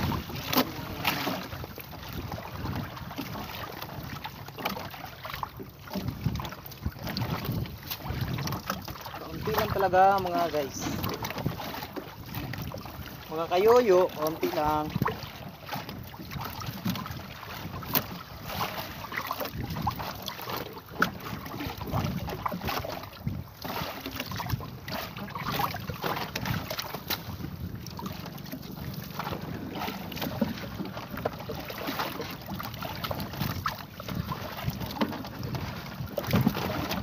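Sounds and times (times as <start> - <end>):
water splashing and dripping: 0.0 - 13.2, 14.1 - 37.0
net rustling against hull: 0.0 - 37.0.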